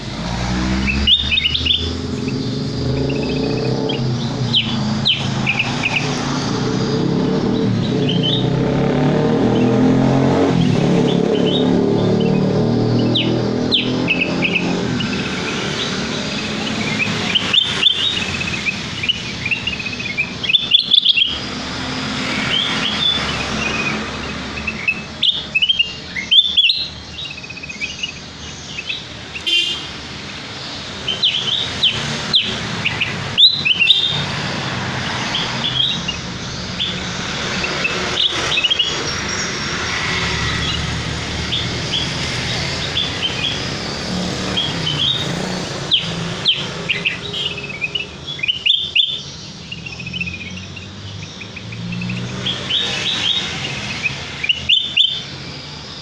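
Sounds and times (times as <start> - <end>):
bulbul chirping and whistling: 0.7 - 8.7, 9.4 - 56.0.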